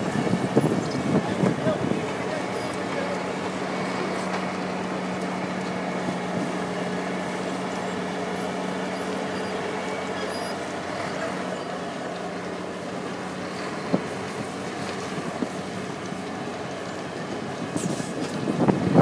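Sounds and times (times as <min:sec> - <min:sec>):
engine hum: 0:00.0 - 0:19.0
milling machine grinding road: 0:00.0 - 0:19.0.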